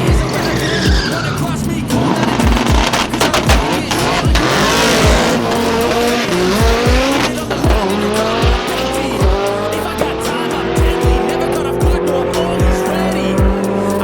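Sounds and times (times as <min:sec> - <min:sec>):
car engine accelerating hard: 0:00.0 - 0:14.0
music with thumping beat: 0:00.0 - 0:14.0.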